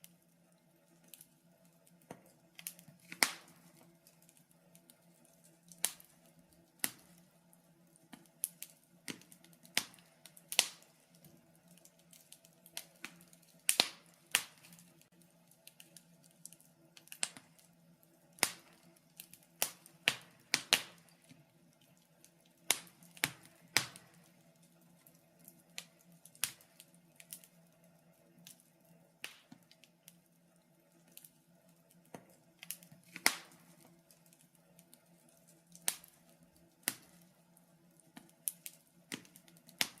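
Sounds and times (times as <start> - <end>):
faint steady hum: 0.0 - 40.0
wood fire crackling: 0.0 - 40.0.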